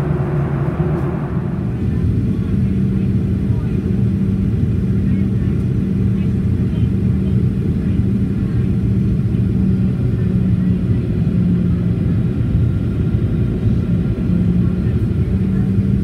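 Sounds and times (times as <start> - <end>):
aircraft cabin engine rumble: 0.0 - 16.0
steady hum: 0.0 - 16.0.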